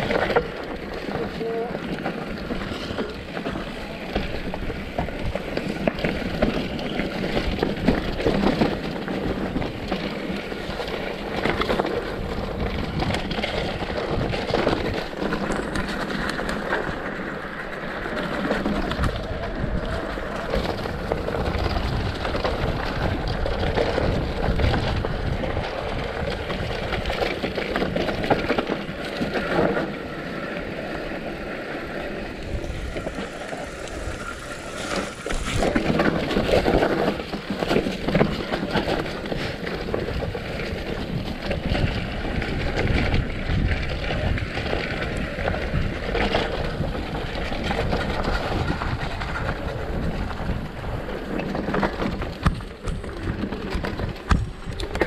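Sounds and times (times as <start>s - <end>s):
bike tyres and frame rattling: 0.0s - 55.0s
wind buffeting microphone: 0.0s - 55.0s.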